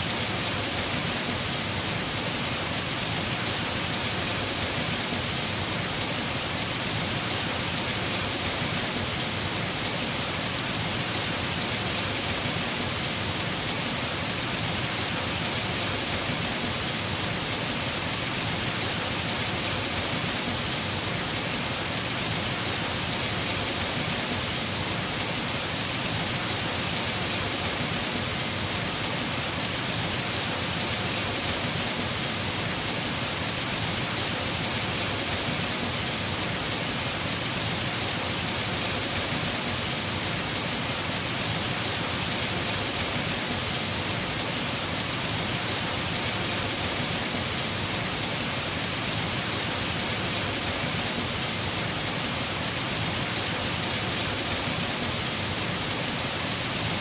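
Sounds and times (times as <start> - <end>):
heavy rain on roof: 0.0 - 57.0.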